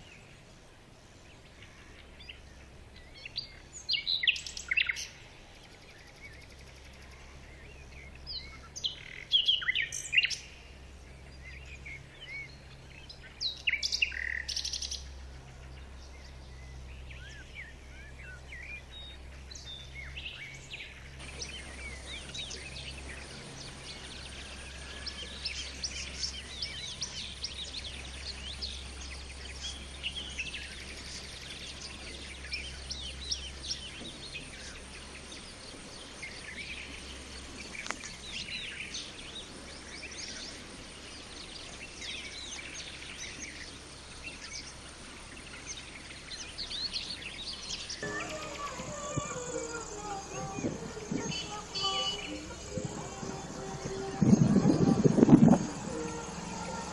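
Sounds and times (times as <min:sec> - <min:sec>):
birds chirping: 0:00.0 - 0:56.9
faint low hum: 0:00.0 - 0:56.9.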